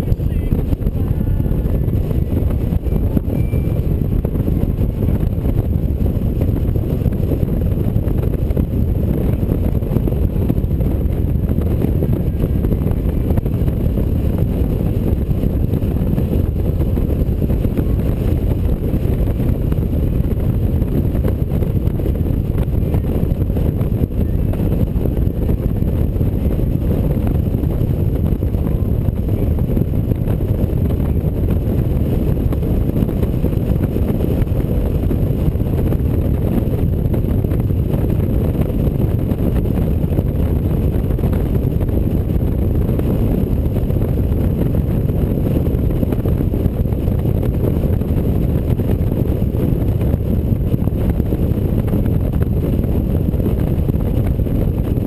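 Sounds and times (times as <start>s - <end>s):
motorcycle road noise: 0.0s - 55.0s
wind buffeting microphone: 0.0s - 55.0s
wind rush: 0.0s - 55.0s.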